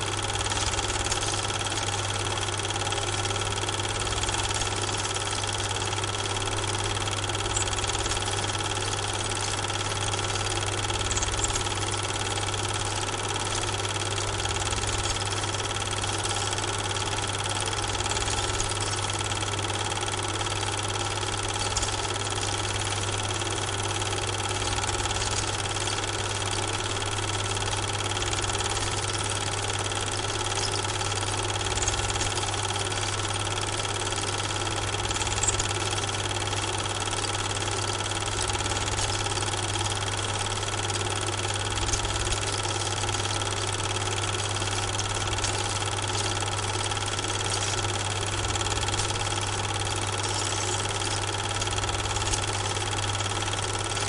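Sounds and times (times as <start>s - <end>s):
machine hum with low drone: 0.0s - 54.0s.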